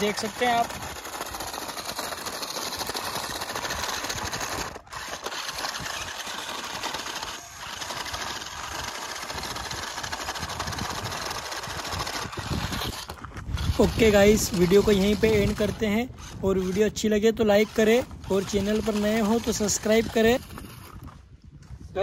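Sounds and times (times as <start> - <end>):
toy car motors whirring: 0.0 - 21.3.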